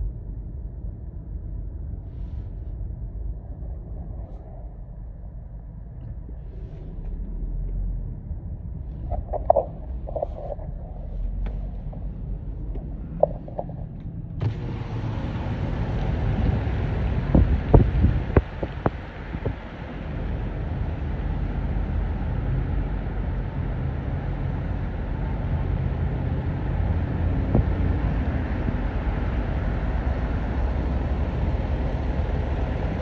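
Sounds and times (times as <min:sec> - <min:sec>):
car engine and tyres on wet road: 0:05.8 - 0:33.0.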